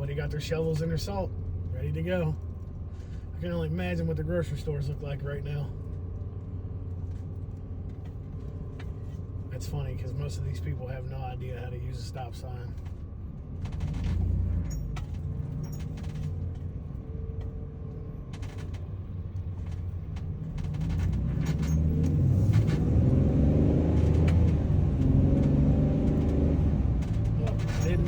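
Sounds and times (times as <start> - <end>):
road rumble: 0.0 - 28.0
van engine: 0.0 - 28.0.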